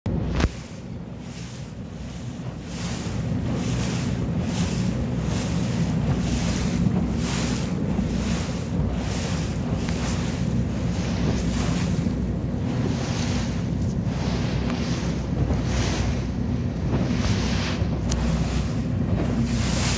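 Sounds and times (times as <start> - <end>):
boat engine drone: 0.1 - 19.9
water splashing against hull: 0.1 - 19.9
wind buffeting microphone: 0.1 - 19.9.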